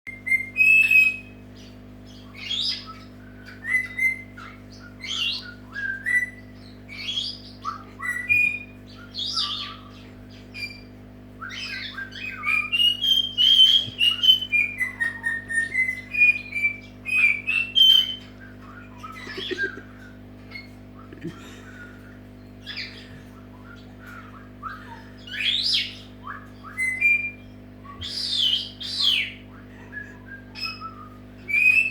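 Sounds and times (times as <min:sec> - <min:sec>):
faint steady hum: 0:00.1 - 0:31.9
parrot whistling and squawking: 0:02.4 - 0:10.0, 0:10.6 - 0:21.1, 0:22.6 - 0:31.9.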